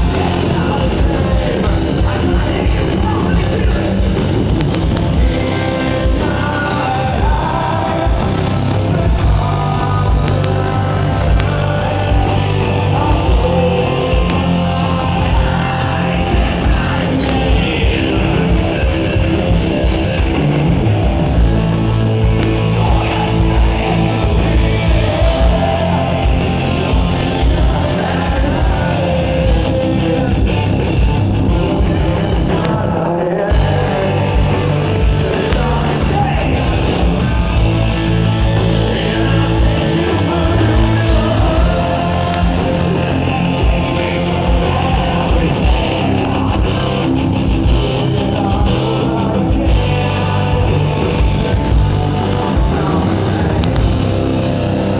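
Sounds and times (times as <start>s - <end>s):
drums: 0.0s - 54.9s
guitars: 0.0s - 54.9s
person singing: 0.0s - 54.9s.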